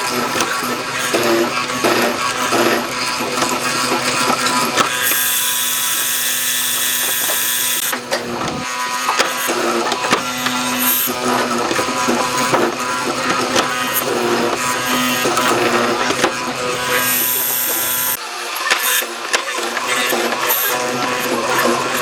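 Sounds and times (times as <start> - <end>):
power tool whirring: 0.0 - 22.0.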